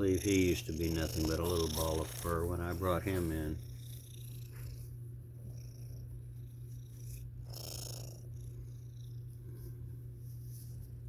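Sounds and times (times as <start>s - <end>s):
cat purring: 0.0s - 10.7s.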